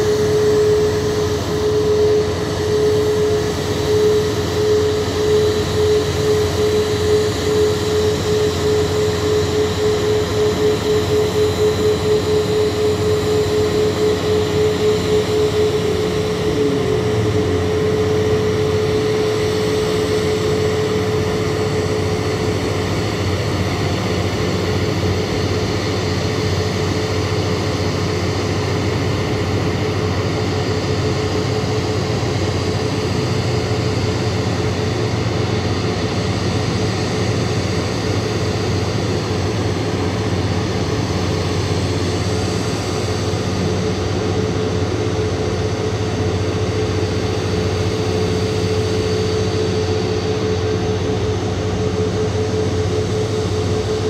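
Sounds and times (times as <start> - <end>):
jet engine whine: 0.0 - 54.0.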